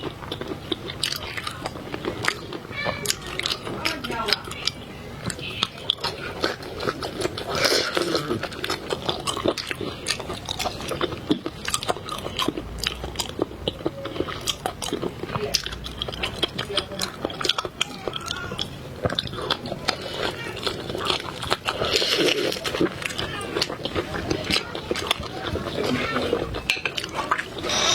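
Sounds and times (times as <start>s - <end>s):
chewing seafood: 0.0s - 27.9s.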